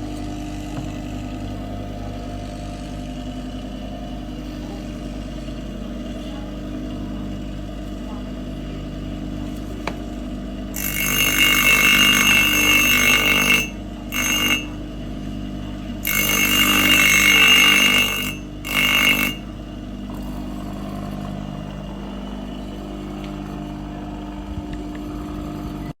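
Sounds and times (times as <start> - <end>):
blade grinding with ringing edge: 0.0 - 24.4
sharpening machine motor hum: 0.0 - 26.0.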